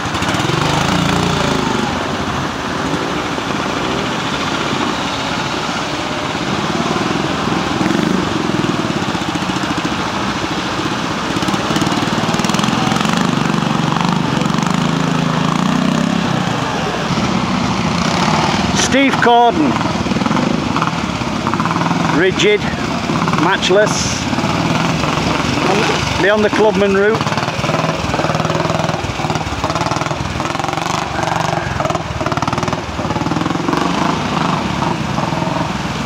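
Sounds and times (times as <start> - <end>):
motorcycle engine revving: 0.0 - 36.0
stream rushing: 0.0 - 36.0.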